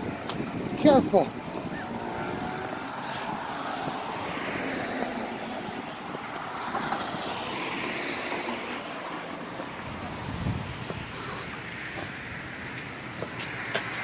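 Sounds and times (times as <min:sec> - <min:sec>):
passing road traffic: 0:00.0 - 0:14.0
wind: 0:00.0 - 0:14.0.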